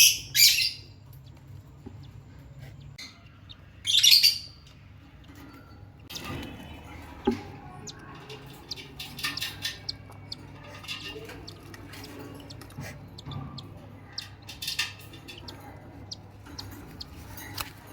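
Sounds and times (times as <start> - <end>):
cockatiels chirping and clicking: 0.0 - 17.9.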